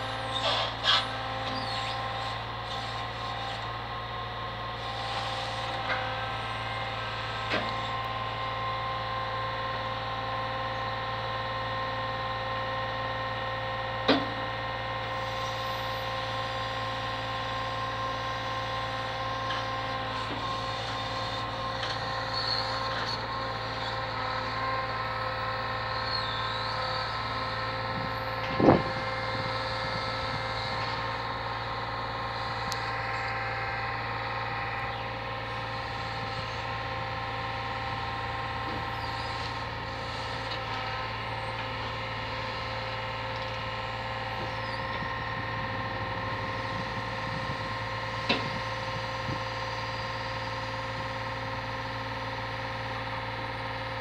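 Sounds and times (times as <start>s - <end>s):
truck engine droning: 0.0s - 54.0s.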